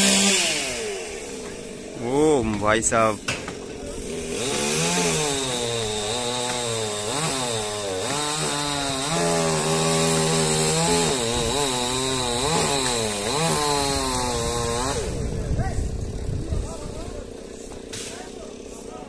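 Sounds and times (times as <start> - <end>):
small engine running: 0.0 - 2.4, 3.0 - 19.0.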